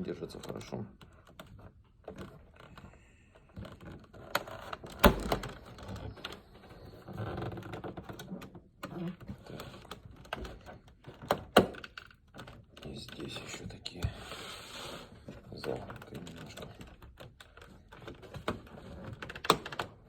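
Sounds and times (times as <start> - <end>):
plastic scraping and creaking: 0.0 - 20.0.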